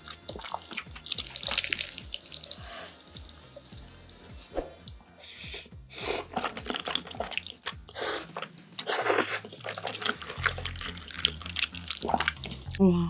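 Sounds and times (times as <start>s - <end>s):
noodles slurped: 0.0s - 3.7s, 5.9s - 12.8s
wet chewing and lip-smacking: 0.0s - 4.4s, 6.0s - 12.8s.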